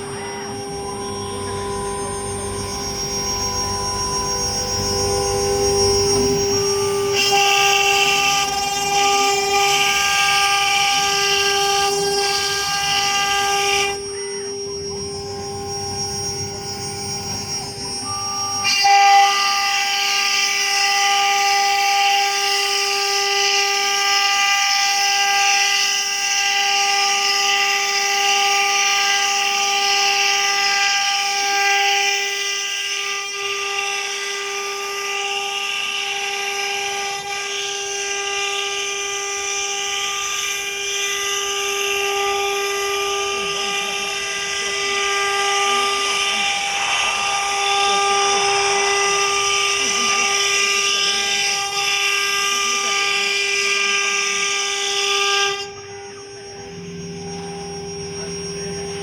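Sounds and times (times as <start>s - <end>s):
router spindle whining: 0.0s - 59.0s.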